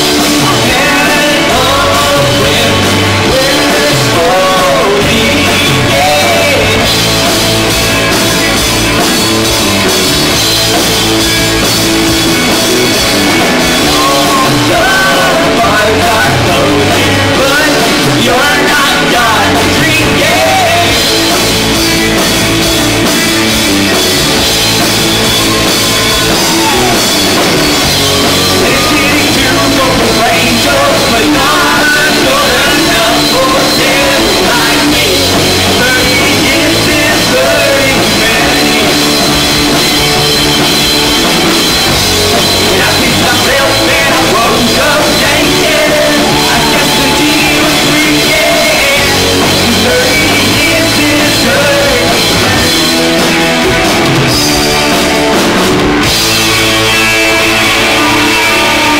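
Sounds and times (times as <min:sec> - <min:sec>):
bass guitar: 0:00.0 - 0:58.9
drum kit: 0:00.0 - 0:58.9
electric guitars: 0:00.0 - 0:58.9.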